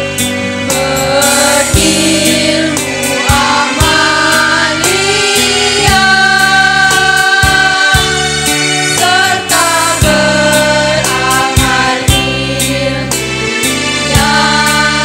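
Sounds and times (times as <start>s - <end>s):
electronic keyboard with beat: 0.0s - 15.0s
women's choir singing: 0.8s - 15.0s.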